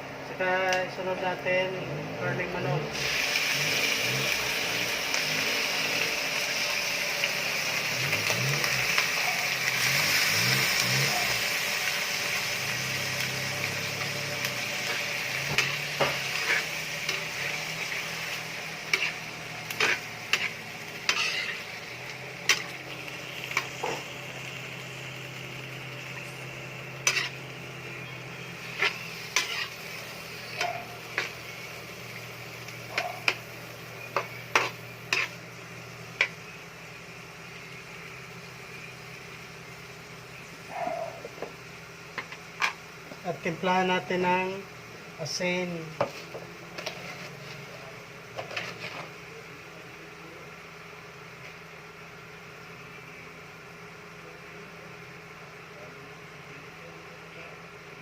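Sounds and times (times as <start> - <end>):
chicken sizzling in hot oil: 0.6 - 58.0.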